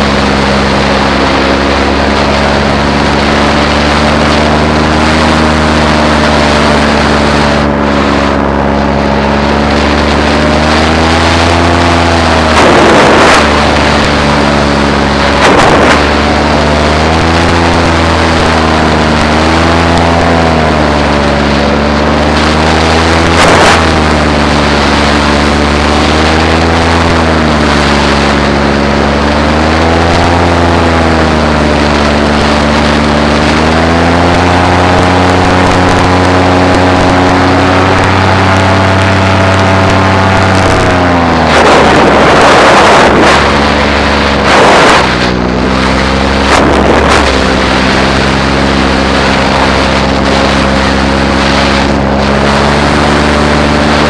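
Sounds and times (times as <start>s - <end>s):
paramotor engine and propeller: 0.0s - 54.0s
wind noise on microphone: 0.0s - 54.0s.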